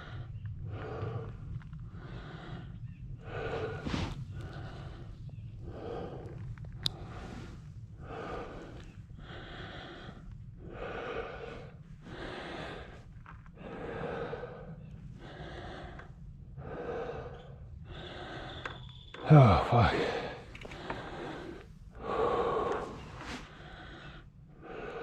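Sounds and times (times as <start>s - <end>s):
heavy breathing: 0.0s - 25.0s
steady low rumble: 0.0s - 25.0s.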